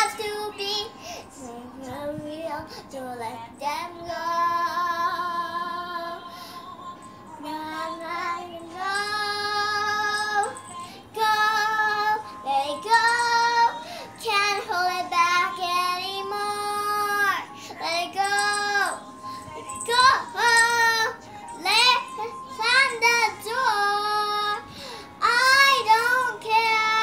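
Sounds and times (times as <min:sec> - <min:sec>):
girl singing a ballad: 0:00.0 - 0:27.0.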